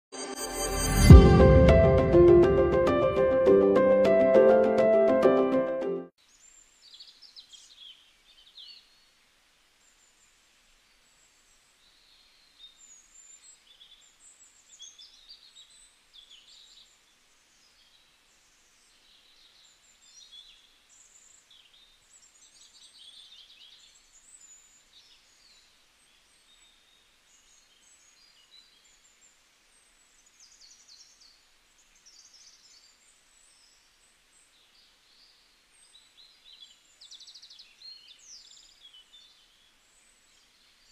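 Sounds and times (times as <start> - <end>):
soft background hiss: 6.2 - 40.9.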